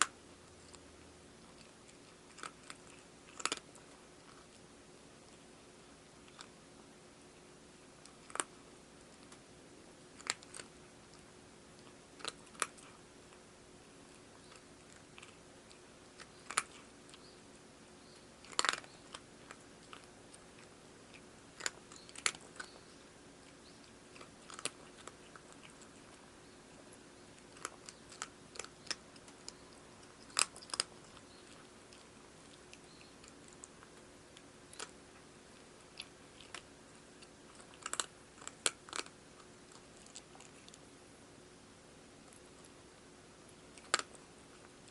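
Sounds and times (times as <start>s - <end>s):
cat crunching dry food: 0.0s - 40.9s, 43.4s - 44.9s.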